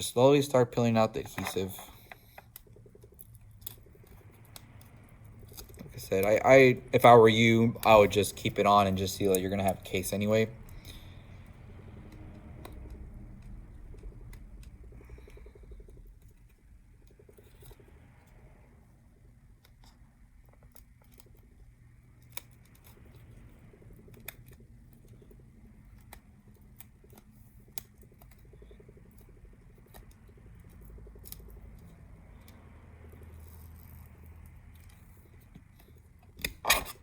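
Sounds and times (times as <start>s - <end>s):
low room hum: 0.0s - 37.0s.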